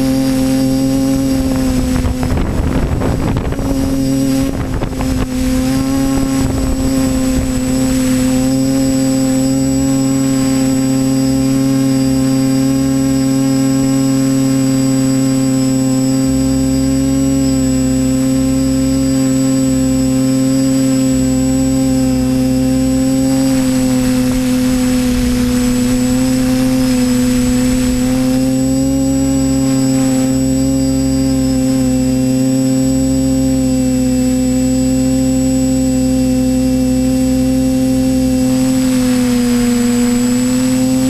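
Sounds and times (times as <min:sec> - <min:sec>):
quadcopter motors buzzing whine: 0:00.0 - 0:41.0.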